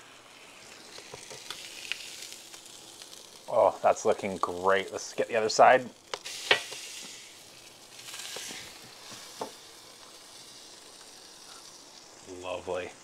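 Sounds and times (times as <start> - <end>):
steak sizzling: 0.0 - 13.0.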